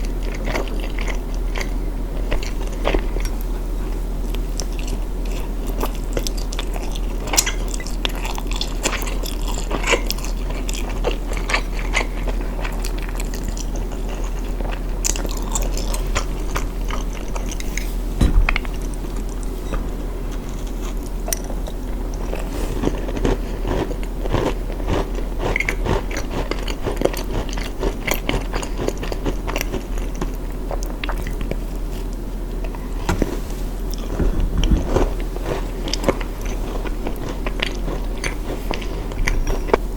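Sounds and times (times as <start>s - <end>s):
biting and chewing: 0.0s - 3.6s, 4.2s - 19.5s, 20.3s - 33.2s, 33.8s - 39.9s
steady low hum: 0.0s - 39.9s.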